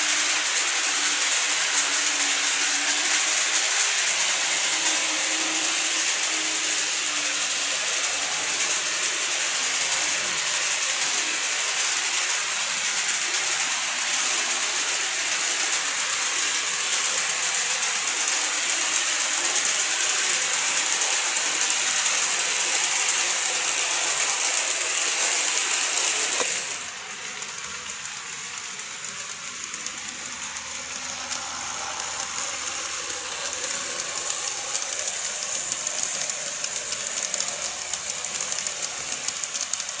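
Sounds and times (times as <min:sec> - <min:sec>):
high hiss of motor: 0:00.0 - 0:40.0
model train wheels rattling: 0:00.0 - 0:40.0.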